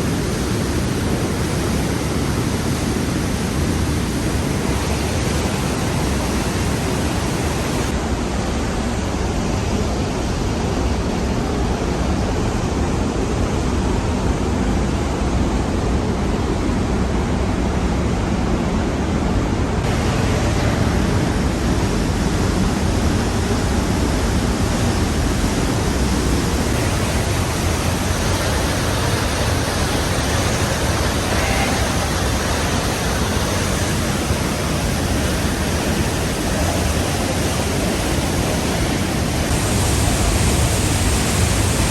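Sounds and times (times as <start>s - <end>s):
waterfall roar: 0.0s - 41.9s.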